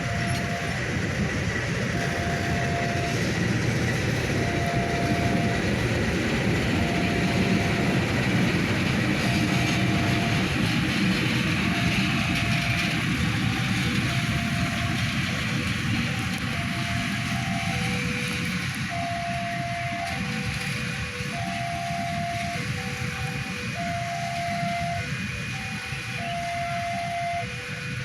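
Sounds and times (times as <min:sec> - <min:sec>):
passenger train rumbling past: 0:00.0 - 0:28.0.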